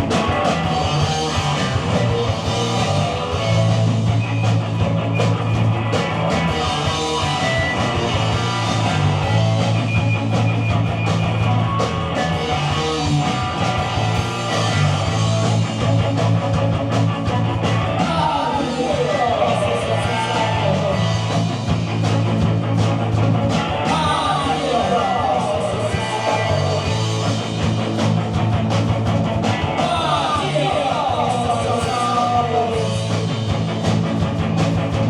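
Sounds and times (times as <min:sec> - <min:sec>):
rock band playing live: 0:00.0 - 0:35.0.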